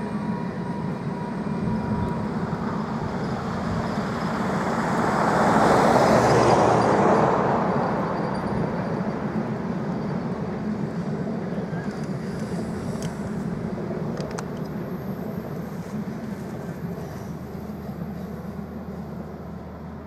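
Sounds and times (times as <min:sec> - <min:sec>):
train wheels rolling on rails: 0:00.0 - 0:20.0.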